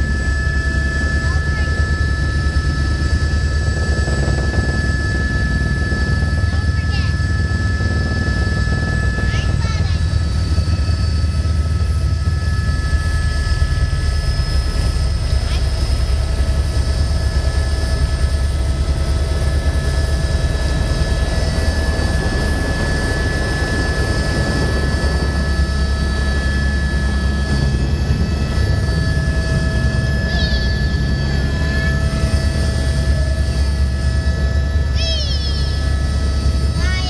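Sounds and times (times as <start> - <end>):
helicopter rotor beat: 0.0 - 37.0
high engine whine: 0.0 - 37.0.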